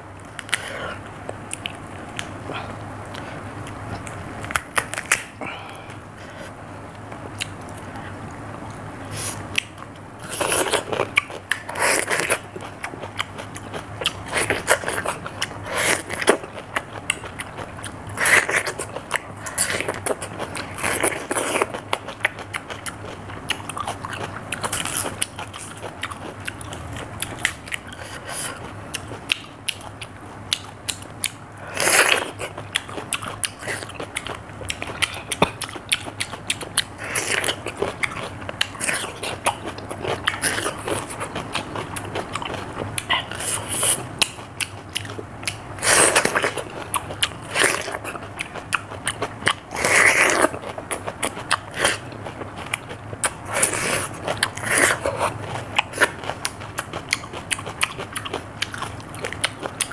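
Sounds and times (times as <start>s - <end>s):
crunching and chewing cucumber: 0.0s - 59.9s.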